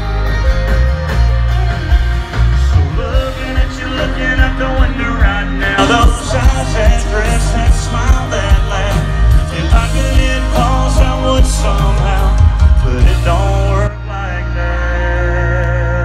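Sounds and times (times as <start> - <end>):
drums keeping a steady beat: 0.0 - 13.9
live country band playing: 0.0 - 16.0.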